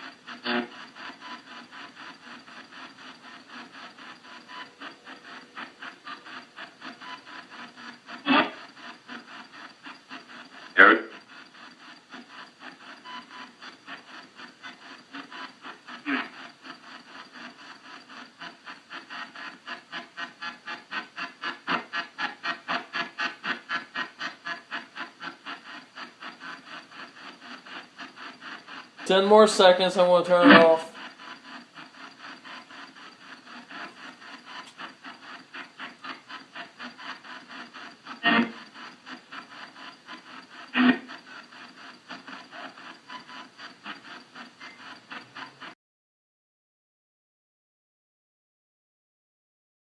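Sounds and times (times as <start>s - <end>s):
radio scanner choppy static: 0.0s - 45.8s.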